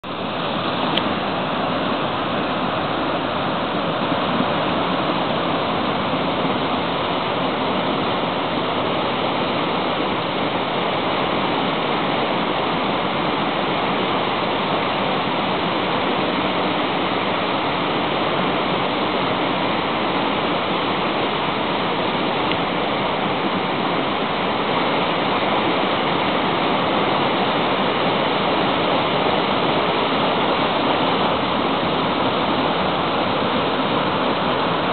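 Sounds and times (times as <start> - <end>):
river rapids roaring: 0.0 - 34.9.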